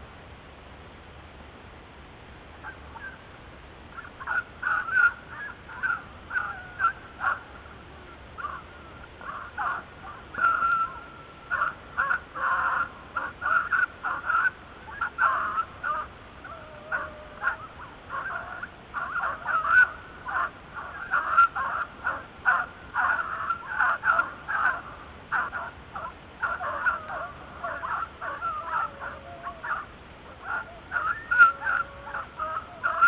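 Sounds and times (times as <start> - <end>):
beagles baying: 3.9 - 33.0.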